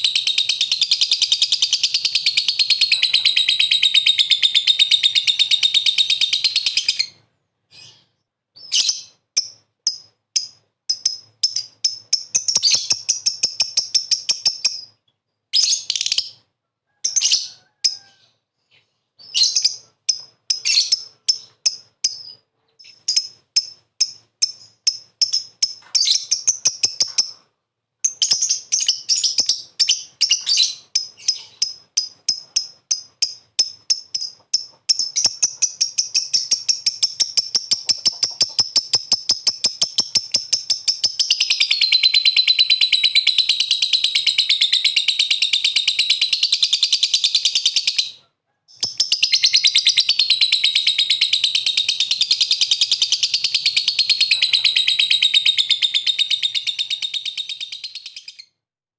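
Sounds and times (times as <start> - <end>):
bird chattering trill: 0.0 - 7.2, 7.8 - 15.0, 19.3 - 27.4, 28.1 - 58.6
high bird chirps: 0.0 - 27.4, 28.0 - 58.6.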